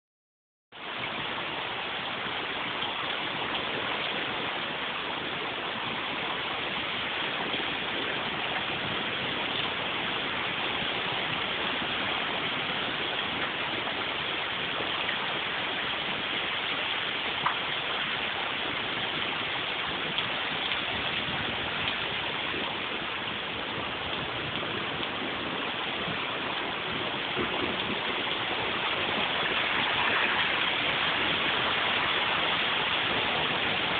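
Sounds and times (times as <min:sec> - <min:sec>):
heavy rain pouring: 0:00.7 - 0:33.9.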